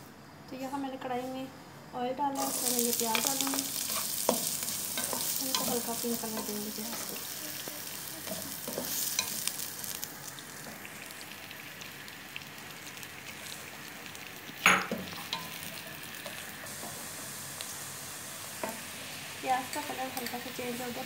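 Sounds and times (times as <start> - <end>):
onions sizzling in oil: 2.3 - 21.0.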